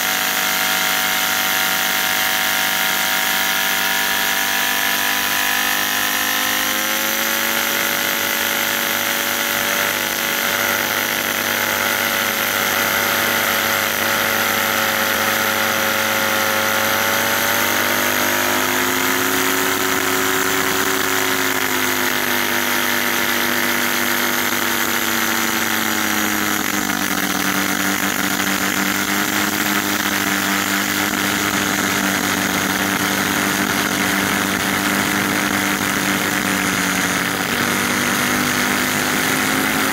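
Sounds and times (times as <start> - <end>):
blender motor whining: 0.0 - 39.9.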